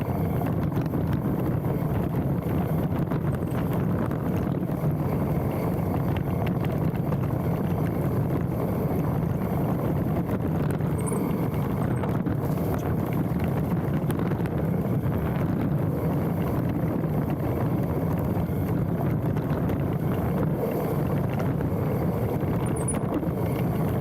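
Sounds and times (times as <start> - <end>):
bike clicks and rattles: 0.0 - 24.0
bike tyres rumbling on dirt: 0.0 - 24.0
wind rushing over camera: 0.0 - 24.0.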